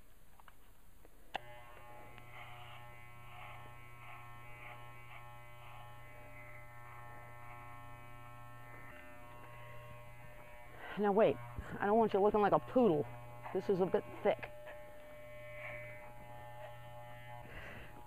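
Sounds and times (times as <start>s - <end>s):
electric clippers buzzing: 1.3s - 18.0s.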